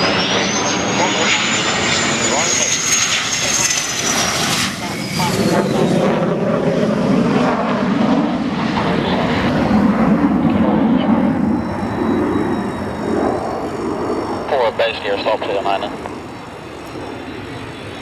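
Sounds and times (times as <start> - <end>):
loud jet engine rumble: 0.0 - 18.0.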